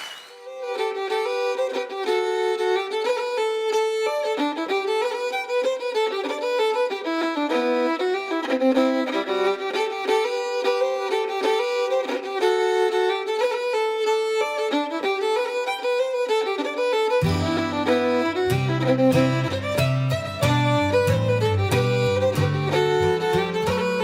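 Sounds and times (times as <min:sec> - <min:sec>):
fiddle playing a quick tune: 0:00.0 - 0:24.0.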